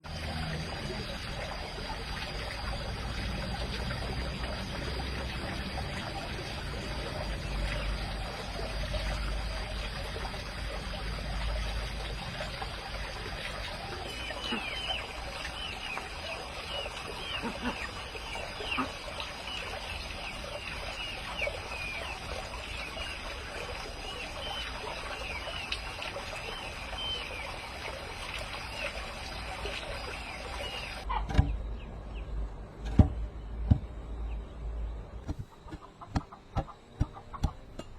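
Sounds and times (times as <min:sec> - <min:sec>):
water trickling: 0:00.0 - 0:31.1.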